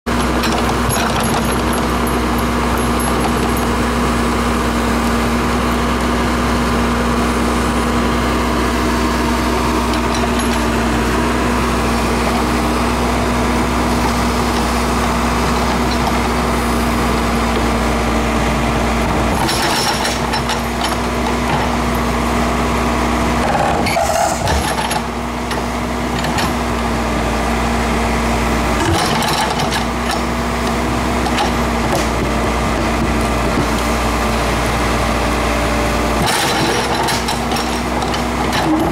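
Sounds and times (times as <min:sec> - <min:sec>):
diesel engine running: 0:00.1 - 0:38.9.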